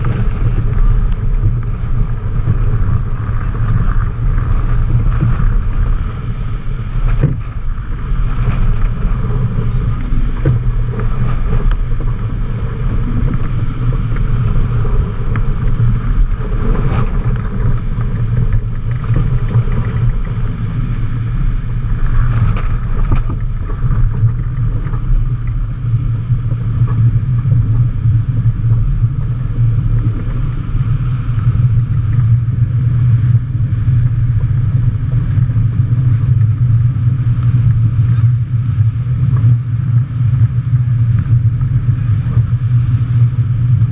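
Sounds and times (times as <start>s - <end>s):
water rushing along hull: 0.0s - 43.9s
wind buffeting microphone: 0.0s - 43.9s.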